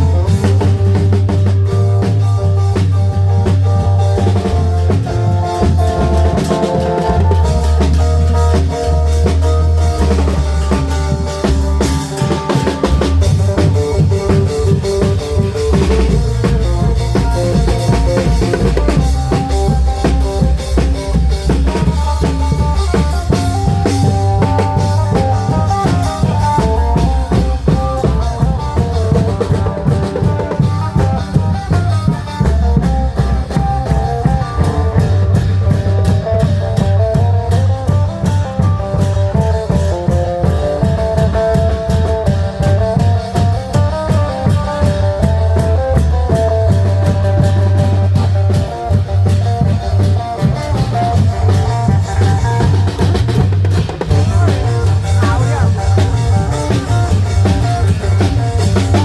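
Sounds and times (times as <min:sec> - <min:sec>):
drums and cymbals: 0:00.0 - 0:59.0
heavy bass line: 0:00.0 - 0:59.0.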